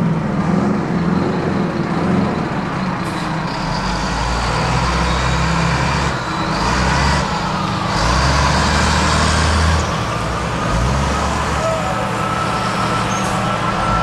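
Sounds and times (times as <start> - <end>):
fire truck diesel engines: 0.0 - 14.0.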